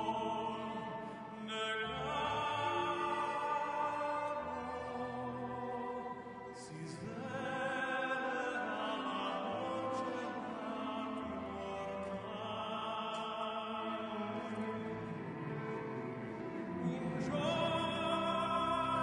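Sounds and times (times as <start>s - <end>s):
operatic singing with vibrato: 0.0s - 19.0s
sustained orchestral strings: 0.0s - 19.0s.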